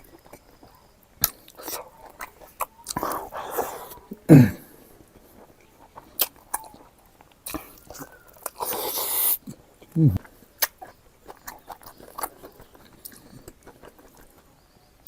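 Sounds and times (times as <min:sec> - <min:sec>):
biting and wet chewing: 0:00.0 - 0:15.0.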